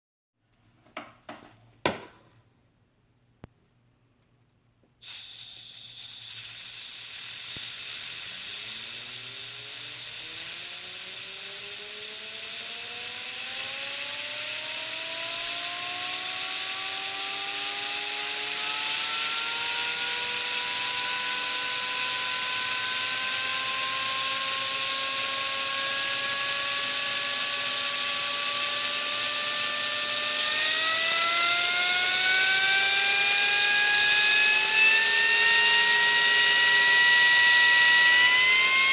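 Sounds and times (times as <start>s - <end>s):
spinner whine rising in pitch: 5.0s - 38.9s.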